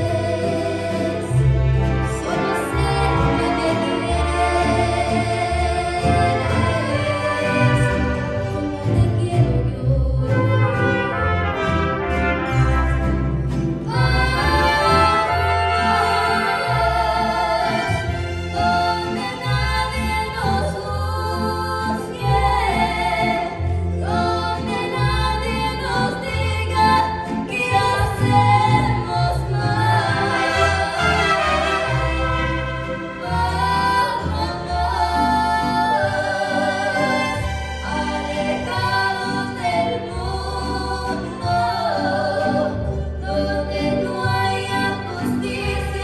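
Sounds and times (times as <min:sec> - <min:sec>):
mariachi band with singing: 0:00.0 - 0:46.0.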